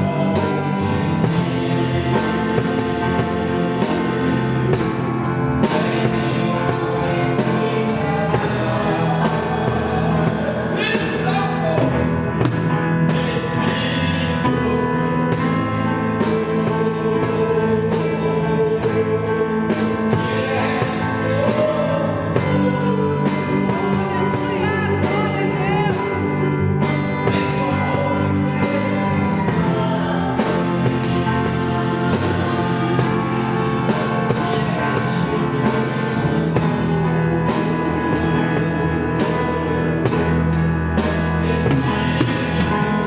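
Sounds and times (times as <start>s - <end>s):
drum kit beat: 0.0s - 13.6s, 14.3s - 43.0s
electronic keyboard: 0.0s - 43.0s
person singing: 0.0s - 43.0s.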